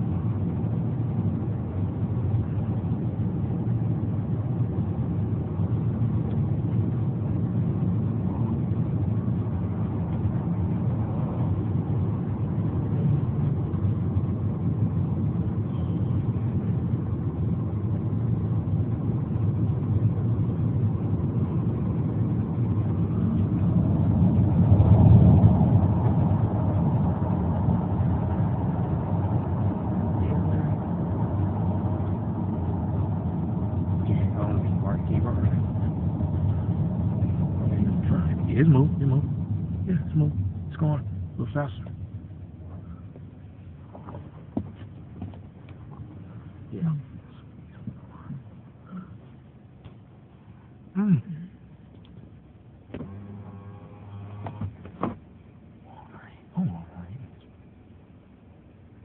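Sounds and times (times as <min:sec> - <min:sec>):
car cabin road noise: 0:00.0 - 0:59.0.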